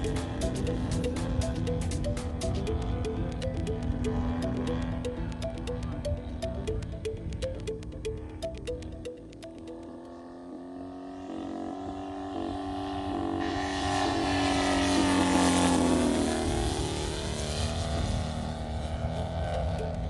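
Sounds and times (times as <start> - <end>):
model plane engine passing: 0.0 - 6.4, 9.6 - 20.0.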